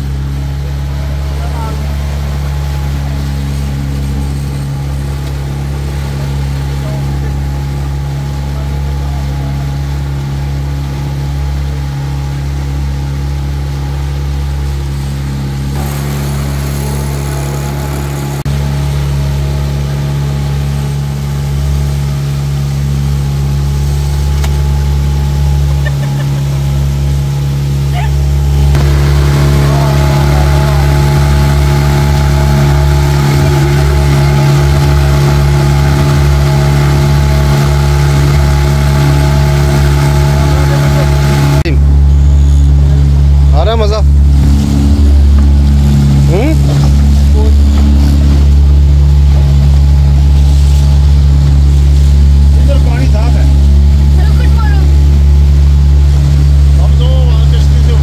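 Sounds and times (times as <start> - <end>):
motorboat engine humming: 0.0 - 58.0.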